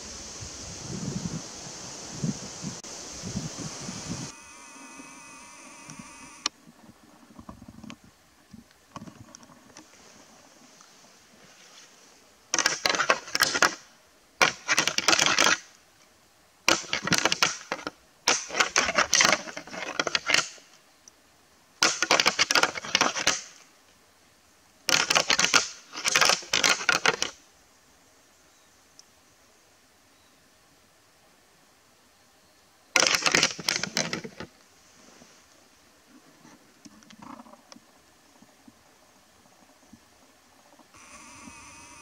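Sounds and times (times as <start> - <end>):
crackling rustle: 0.0 - 29.6, 32.9 - 42.0.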